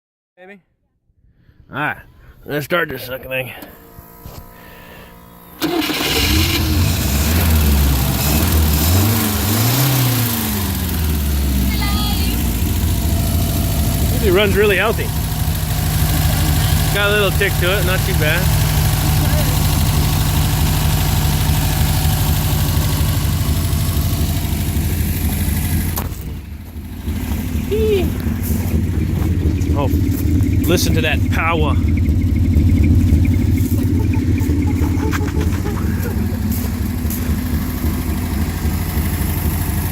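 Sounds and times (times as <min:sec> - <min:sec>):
car engine cranking and starting: 0:03.5 - 0:39.9.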